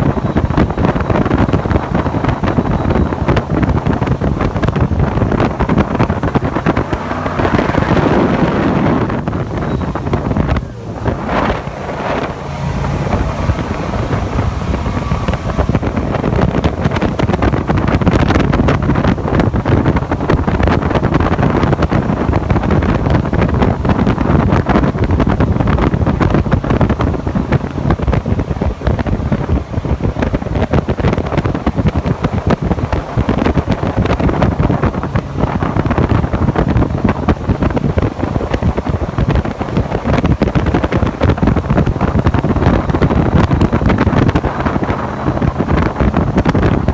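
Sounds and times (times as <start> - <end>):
jet boat running: 0.0 - 46.9
wind buffeting microphone: 0.0 - 46.9.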